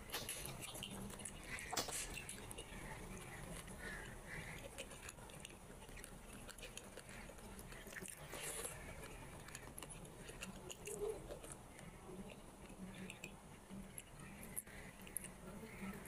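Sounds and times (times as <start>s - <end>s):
wet chewing and mouth smacks: 0.0s - 16.0s.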